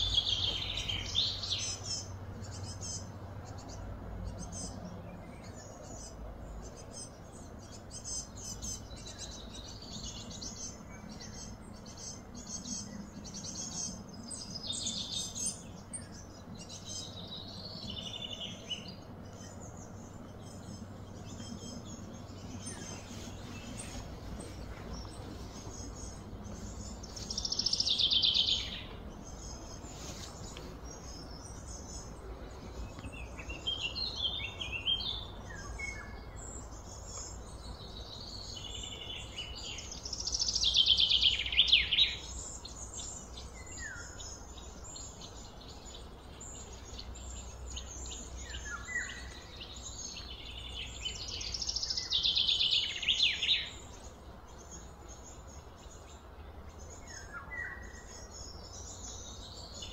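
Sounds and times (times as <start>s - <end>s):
bird chirps: 0.0s - 59.9s
songbird trilling: 0.0s - 59.9s
steady low hum: 0.0s - 59.9s.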